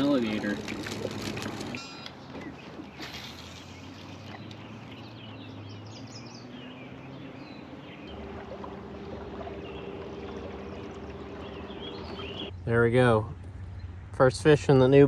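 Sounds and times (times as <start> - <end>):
birds chirping: 0.0 - 15.0
low hum: 0.0 - 15.0
outdoor background noise: 0.0 - 15.0.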